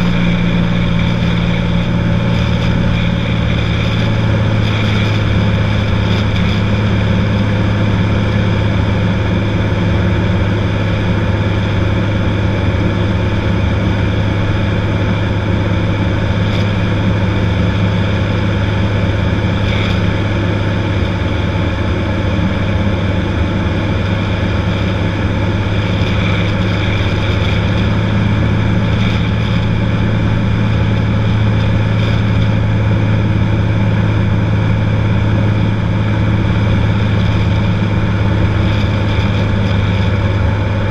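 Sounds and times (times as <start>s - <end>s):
propeller plane engine droning: 0.0s - 40.9s.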